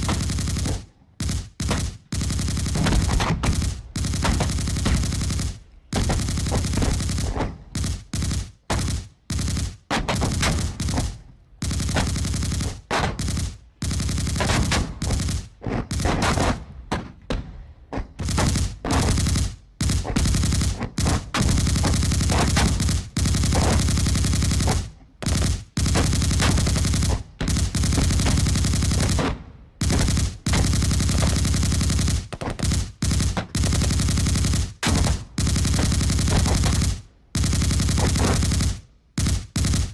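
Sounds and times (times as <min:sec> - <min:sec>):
machine-gun fire: 0:00.0 - 0:16.7, 0:18.2 - 0:39.9.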